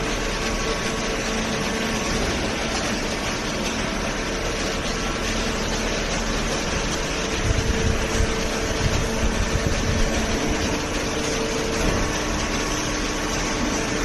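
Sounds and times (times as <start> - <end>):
hydraulic machine running: 0.0 - 14.0.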